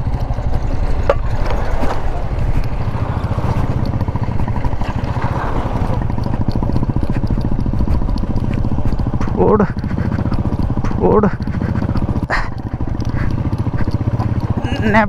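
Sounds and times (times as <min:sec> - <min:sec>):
motorcycle engine pulsing: 0:00.0 - 0:15.0
motorcycle knocking and rattling: 0:00.0 - 0:15.0.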